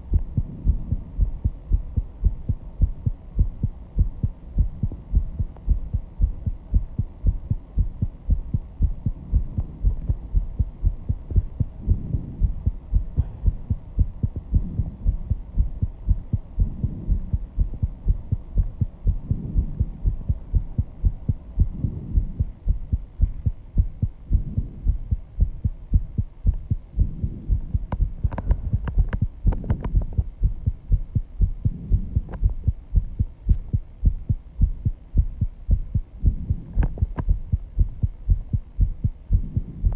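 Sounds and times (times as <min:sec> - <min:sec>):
fast heartbeat: 0:00.0 - 0:39.9.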